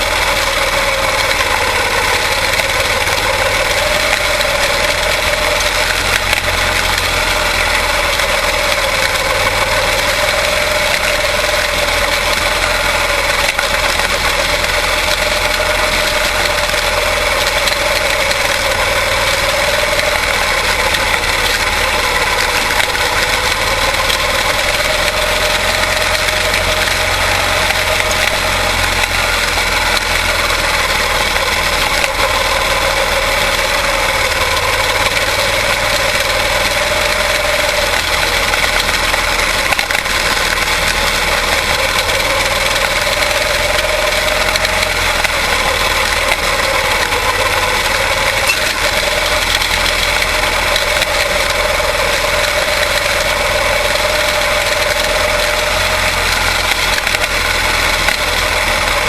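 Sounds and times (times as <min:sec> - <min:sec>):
race car engines running: 0:00.0 - 0:59.0.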